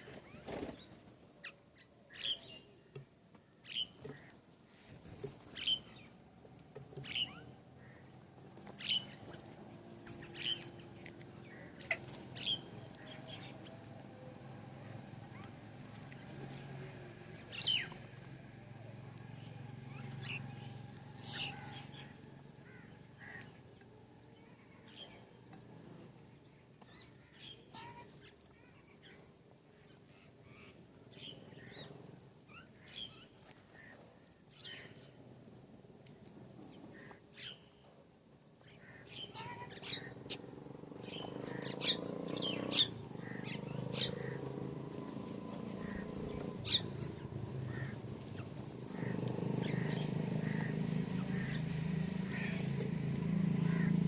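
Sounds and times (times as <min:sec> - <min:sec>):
birds chirping: 0:00.0 - 0:03.0, 0:03.6 - 0:35.6, 0:38.6 - 0:54.0.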